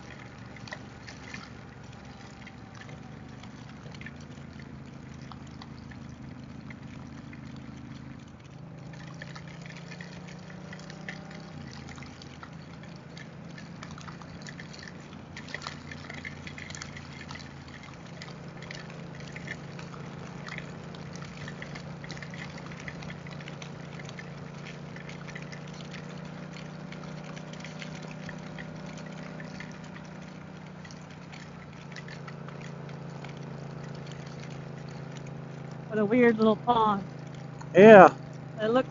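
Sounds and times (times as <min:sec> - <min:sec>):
motorcycle engine running: 0:00.0 - 0:38.9
raindrops striking: 0:00.0 - 0:38.9.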